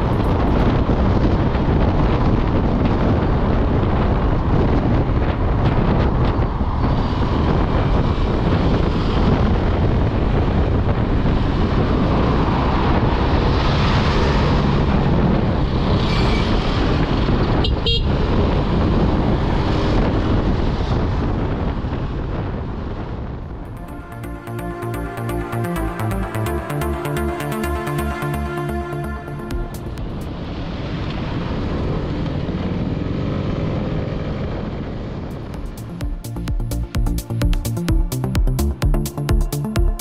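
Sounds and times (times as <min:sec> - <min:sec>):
road and traffic noise: 0:00.0 - 0:40.0.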